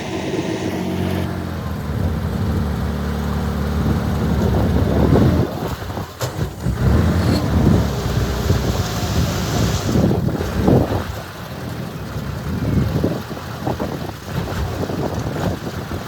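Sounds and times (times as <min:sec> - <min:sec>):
heavy diesel engine rumbling: 0:00.0 - 0:16.0.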